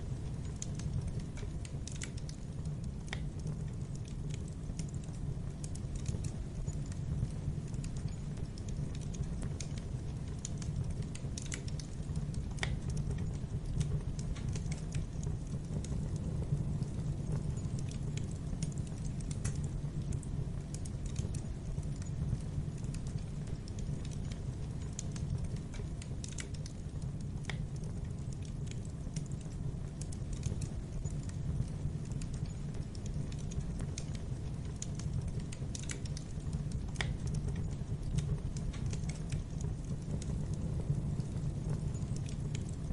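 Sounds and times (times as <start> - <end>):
fire crackles and pops: 0.0 - 42.9
fire flames rumbling: 0.0 - 42.9.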